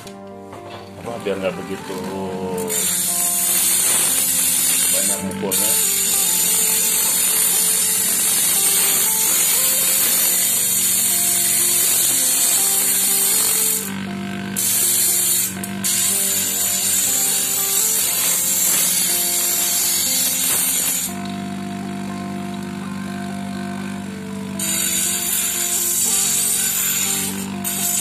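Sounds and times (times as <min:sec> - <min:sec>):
angle grinder grinding metal: 0:00.0 - 0:28.0
grinder motor humming: 0:00.0 - 0:28.0.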